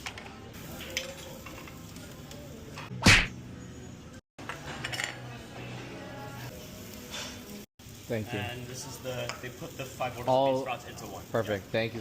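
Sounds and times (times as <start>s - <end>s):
low restaurant background: 0.0s - 12.0s.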